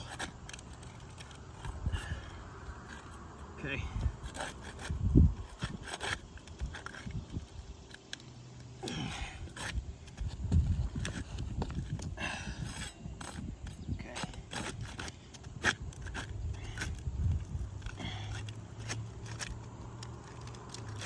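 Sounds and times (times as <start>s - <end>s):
hand tools scraping roof shingles: 0.0s - 21.0s
steady low hum: 0.0s - 21.0s.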